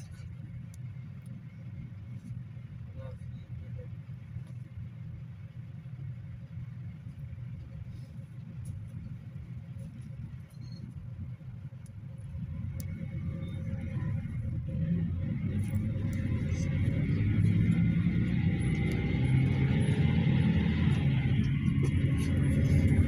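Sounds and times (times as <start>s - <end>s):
minibus engine and road rumble: 0.0s - 23.0s.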